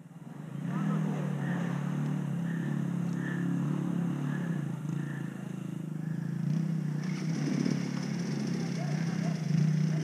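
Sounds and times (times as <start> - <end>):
dirt bike engine revving: 0.2 - 10.0.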